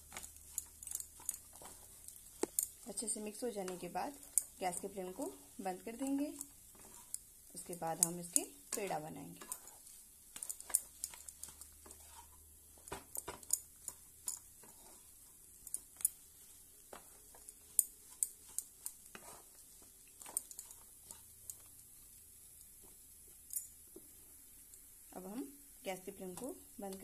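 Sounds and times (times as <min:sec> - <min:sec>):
spatula scraping a pan: 0:00.0 - 0:21.8.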